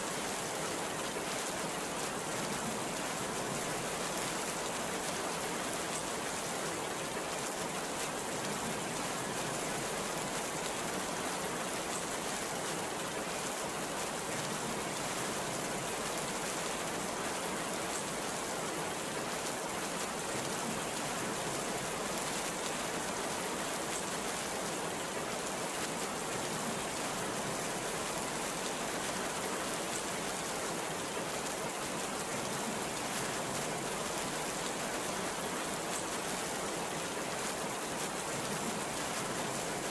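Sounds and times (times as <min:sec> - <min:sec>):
very heavy rain: 0:00.0 - 0:39.9.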